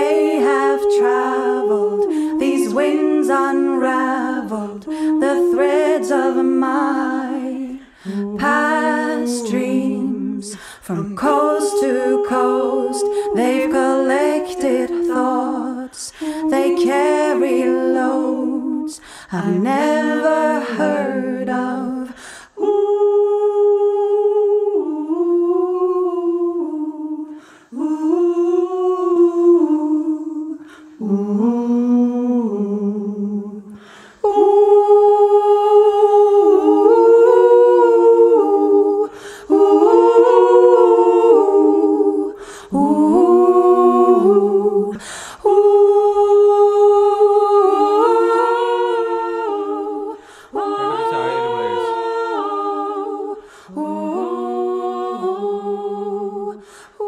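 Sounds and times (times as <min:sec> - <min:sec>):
a cappella humming in harmony: 0:00.0 - 0:57.0.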